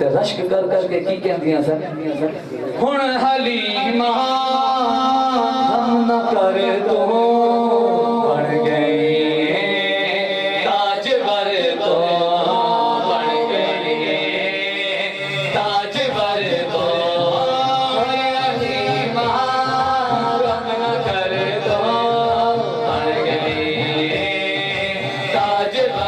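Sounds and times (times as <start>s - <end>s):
men singing into microphones: 2.8s - 26.0s.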